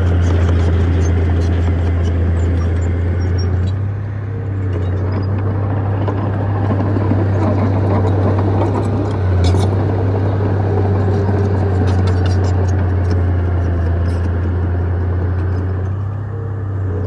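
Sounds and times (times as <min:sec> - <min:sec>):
bulldozer diesel engine drone: 0:00.0 - 0:17.0.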